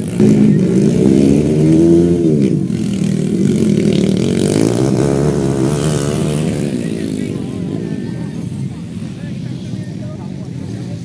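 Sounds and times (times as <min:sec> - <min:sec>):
motorcycles revving hard: 0:00.0 - 0:11.0.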